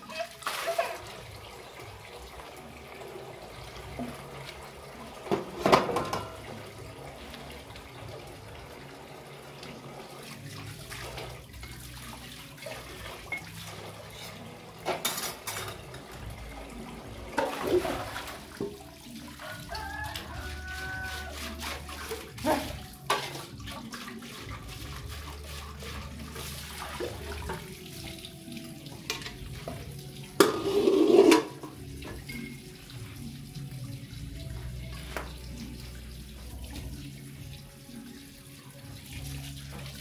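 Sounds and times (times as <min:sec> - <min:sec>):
water poured and splashing: 0:00.0 - 0:40.0.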